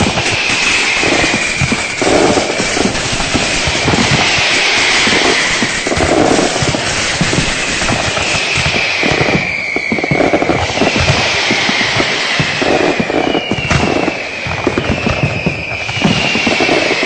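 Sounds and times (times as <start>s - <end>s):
firecrackers banging and popping: 0.0s - 17.0s
high whistling tones sliding down: 0.0s - 17.0s.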